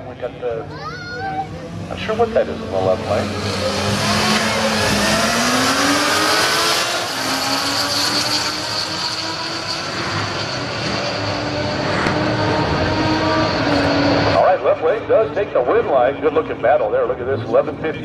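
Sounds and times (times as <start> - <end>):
drag racing engines at full throttle: 0.0 - 18.0
steady high whine: 1.4 - 18.0.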